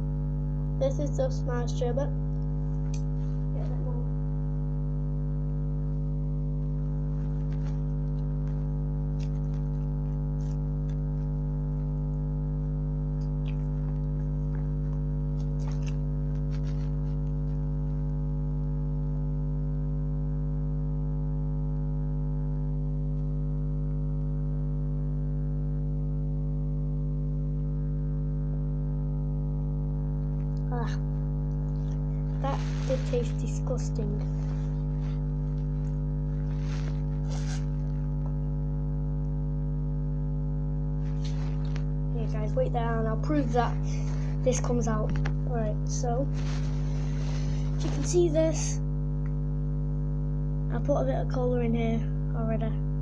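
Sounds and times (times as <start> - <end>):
buzzing electrical hum: 0.0 - 53.0.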